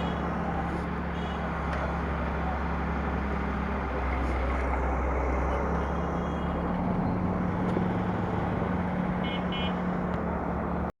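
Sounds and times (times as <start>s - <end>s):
wind and road noise: 0.0s - 10.9s.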